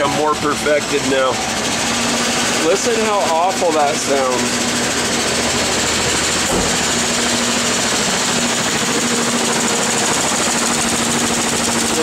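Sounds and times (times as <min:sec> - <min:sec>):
engine running rough and misfiring: 0:00.0 - 0:12.0.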